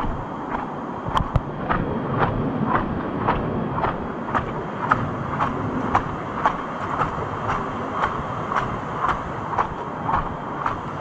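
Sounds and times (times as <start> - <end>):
footsteps on paved path: 0.0 - 11.0.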